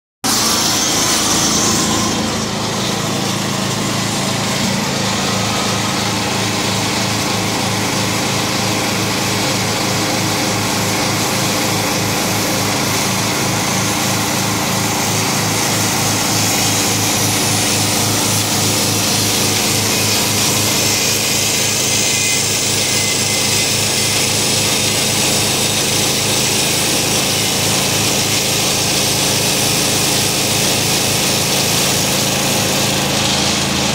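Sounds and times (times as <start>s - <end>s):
cutter head cutting log: 0.2s - 33.9s
small gasoline engine running: 0.2s - 33.9s.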